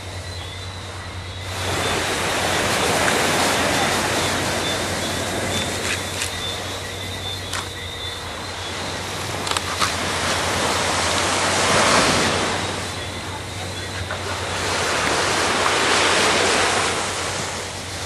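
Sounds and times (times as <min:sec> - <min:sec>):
surf breaking on beach: 0:01.4 - 0:18.0.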